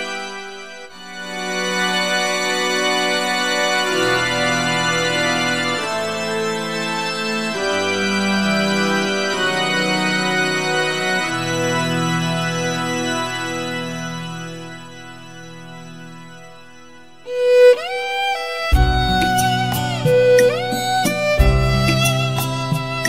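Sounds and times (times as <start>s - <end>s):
organ-like chords: 0.0s - 23.0s.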